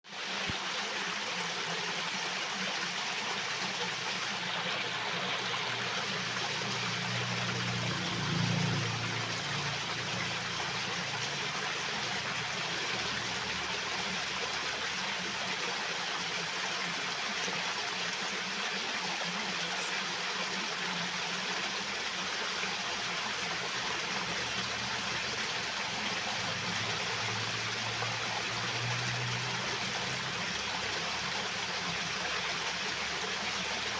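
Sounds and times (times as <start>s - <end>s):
water flowing: 0.1s - 33.9s.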